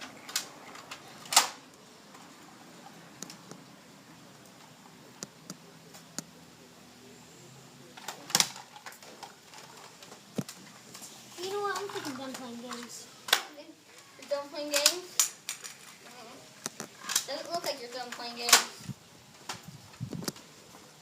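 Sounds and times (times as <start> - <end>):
faint room hiss: 0.0 - 21.0.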